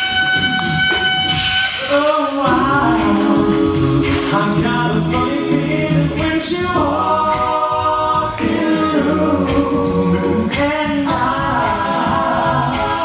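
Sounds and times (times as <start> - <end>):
men singing in close harmony: 1.9 - 13.0.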